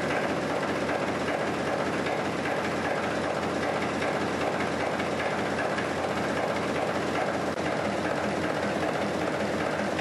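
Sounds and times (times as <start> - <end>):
diesel engine clattering: 0.0 - 10.0.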